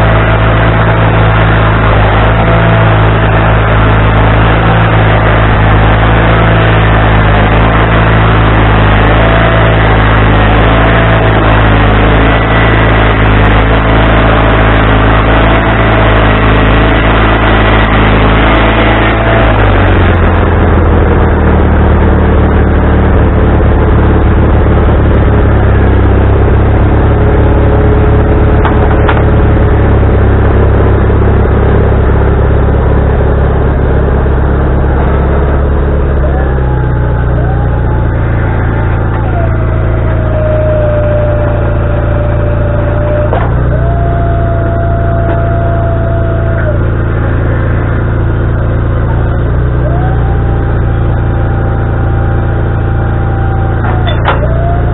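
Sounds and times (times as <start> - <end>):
band saw high whine: 0.0 - 54.9
sawmill engine running: 0.0 - 54.9.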